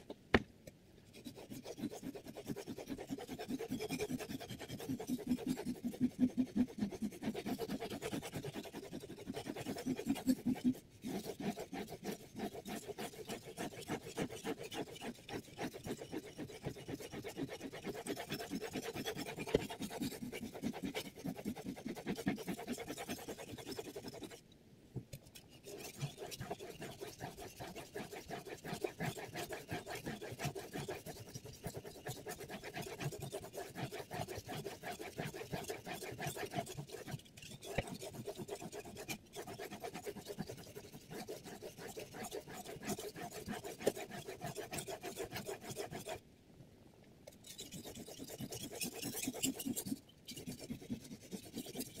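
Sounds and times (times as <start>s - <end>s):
knife scraping on whetstone: 1.1s - 24.4s, 25.3s - 46.2s, 47.4s - 52.0s.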